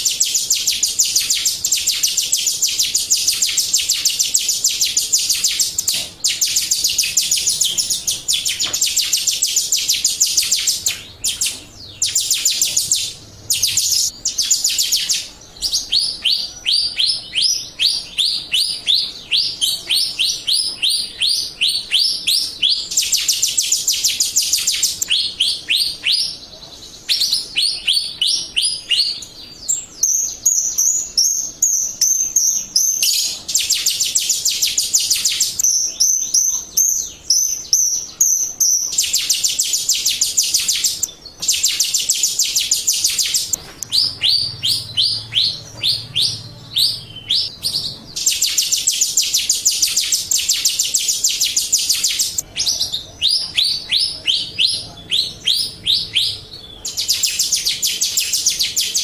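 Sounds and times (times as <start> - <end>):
bird singing chirps and whistles: 0.0 - 59.0.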